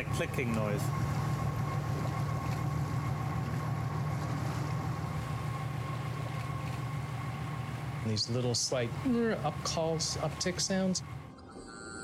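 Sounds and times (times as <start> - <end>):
boat engine droning: 0.0 - 12.0
faint steady whine: 0.0 - 12.0.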